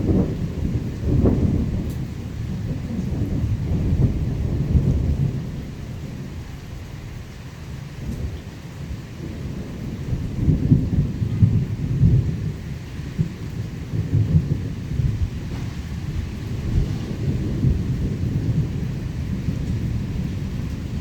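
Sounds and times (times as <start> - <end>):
heavy rain hiss: 0.0 - 21.0
thunder rumbling: 0.0 - 21.0.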